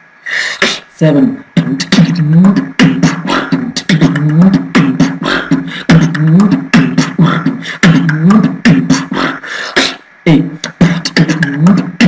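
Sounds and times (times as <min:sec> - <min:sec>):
person beatboxing: 0:00.3 - 0:12.0.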